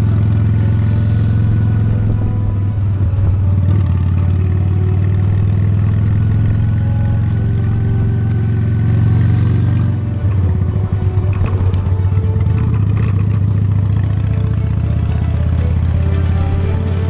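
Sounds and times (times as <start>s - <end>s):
motorcycle engine running: 0.0s - 17.0s
rattling: 0.0s - 17.0s.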